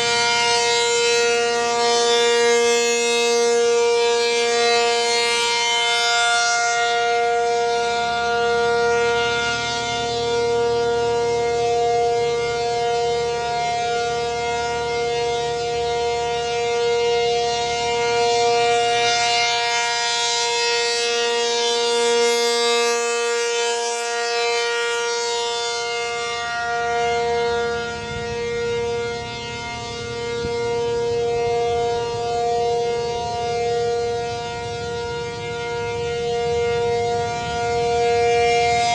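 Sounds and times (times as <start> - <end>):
dual-tone outdoor warning siren: 0.0 - 38.9.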